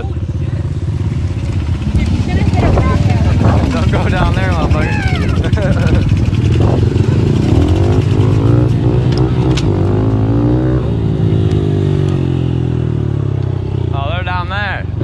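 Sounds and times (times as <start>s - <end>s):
motorbike engine revving: 0.0s - 14.2s.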